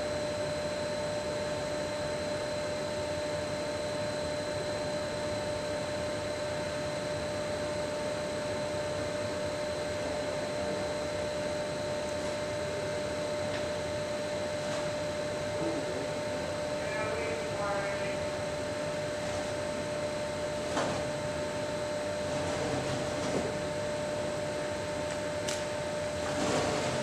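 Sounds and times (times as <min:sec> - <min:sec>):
background hum and hiss: 0:00.0 - 0:27.0.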